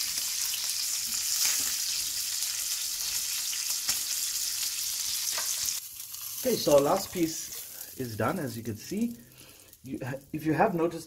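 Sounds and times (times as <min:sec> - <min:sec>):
meat sizzling in fat: 0:00.0 - 0:11.0.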